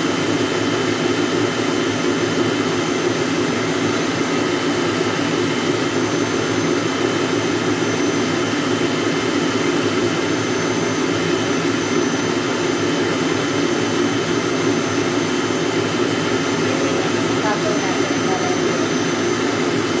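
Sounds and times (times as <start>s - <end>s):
stand mixer running: 0.0s - 20.0s.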